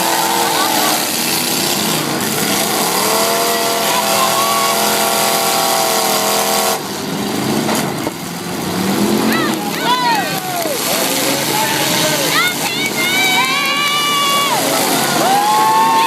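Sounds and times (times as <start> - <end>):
arena crowd din: 0.0 - 5.6, 8.0 - 16.0
car engine revving: 0.0 - 16.0.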